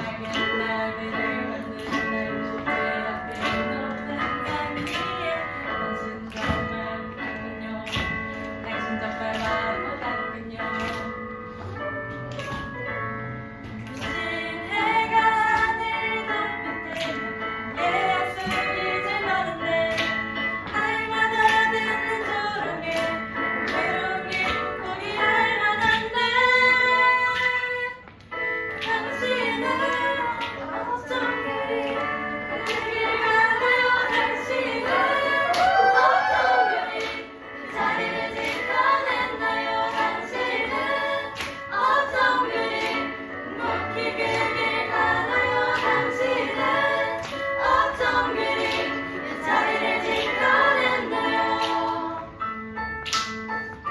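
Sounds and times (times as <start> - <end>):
group singing worship song: 0.0 - 11.3, 13.7 - 28.0, 28.8 - 52.8.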